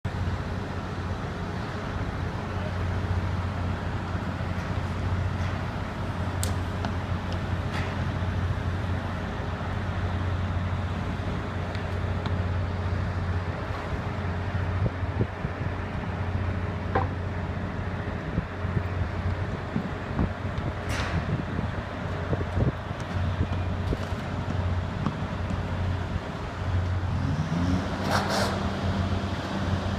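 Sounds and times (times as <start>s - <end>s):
construction machinery engine hum: 0.1s - 29.9s.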